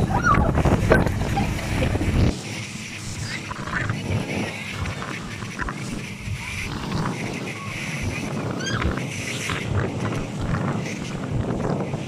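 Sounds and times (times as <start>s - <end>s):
rushing ship wake: 0.0s - 12.0s
wind buffeting microphone: 0.0s - 12.0s.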